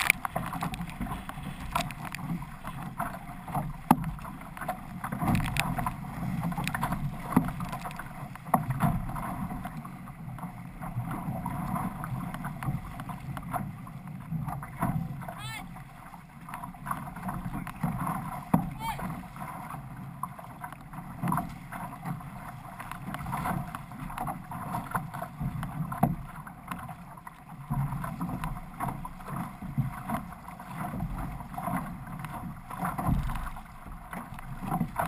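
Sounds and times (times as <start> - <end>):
paddle strokes splashing: 0.0 - 35.0
water rushing along canoe hull: 0.0 - 35.0.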